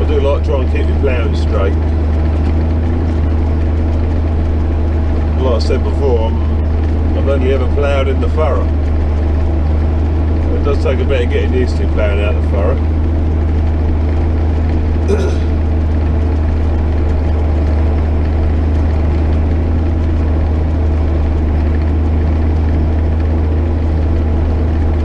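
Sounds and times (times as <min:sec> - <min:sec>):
tractor diesel engine droning: 0:00.0 - 0:25.0.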